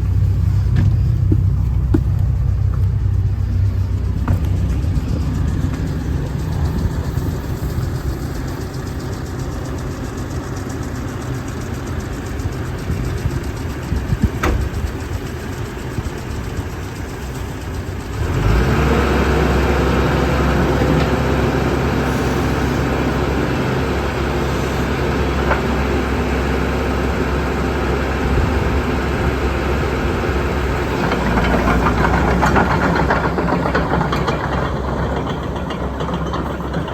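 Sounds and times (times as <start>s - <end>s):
engine whine: 0.0s - 36.9s
excavator diesel engine: 0.0s - 36.9s.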